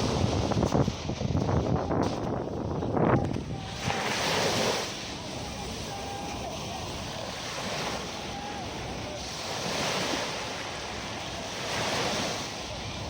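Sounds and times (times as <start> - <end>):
sea waves washing onto beach: 0.0 - 13.0
wind buffeting microphone: 0.0 - 13.0.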